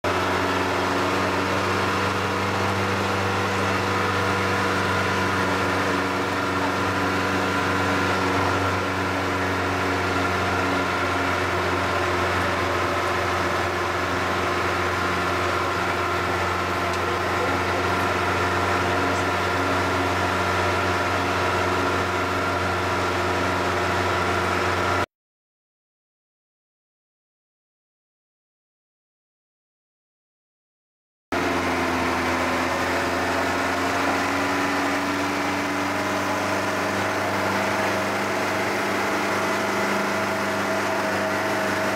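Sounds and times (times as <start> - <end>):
road noise: 0.0 - 25.0, 31.4 - 41.9
vehicle engine humming: 0.0 - 25.1, 31.4 - 41.9.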